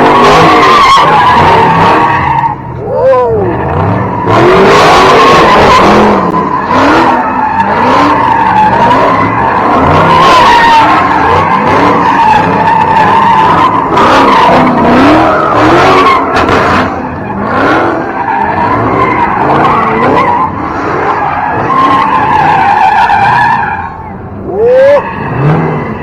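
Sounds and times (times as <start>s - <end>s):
car engine revving: 0.0s - 26.0s
car tyres squealing: 0.0s - 26.0s.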